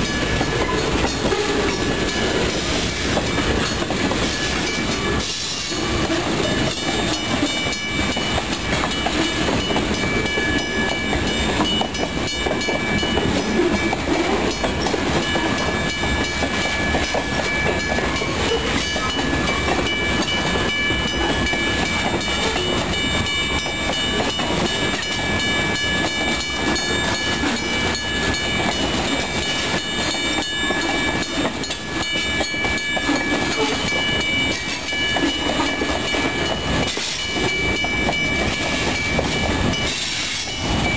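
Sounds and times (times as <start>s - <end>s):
train rumble: 0.0s - 40.9s
train wheels clicking on rail joints: 0.0s - 40.9s.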